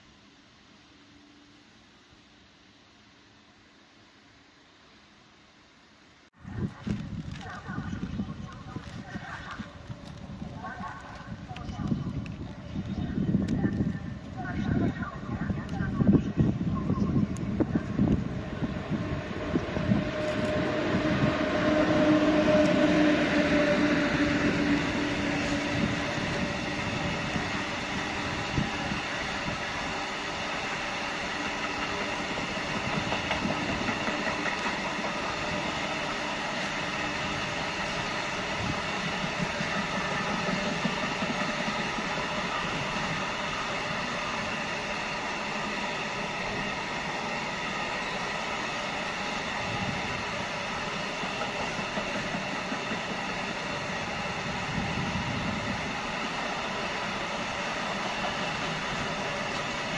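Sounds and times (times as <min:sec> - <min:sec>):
locomotive passing with steady tones: 0:00.0 - 0:59.9.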